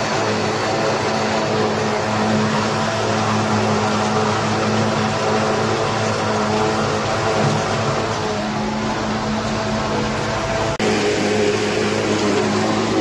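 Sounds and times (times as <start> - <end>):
forage harvester chopper rushing: 0.0 - 13.0
tractor engine hum: 0.0 - 13.0.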